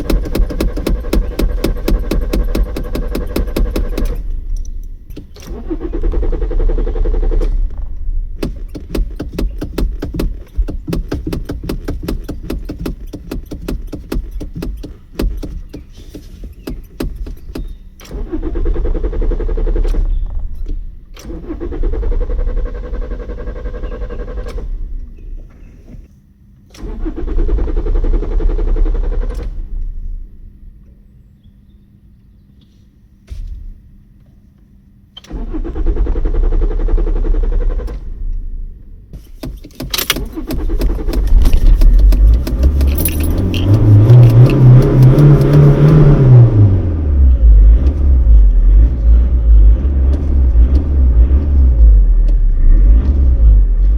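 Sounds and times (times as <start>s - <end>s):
car starter cranking engine: 0.0s - 31.1s, 35.0s - 53.9s.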